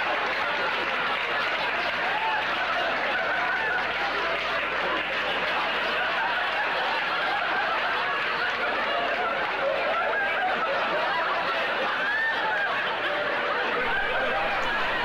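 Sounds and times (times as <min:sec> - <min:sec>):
studio audience laughing: 0:00.0 - 0:15.0.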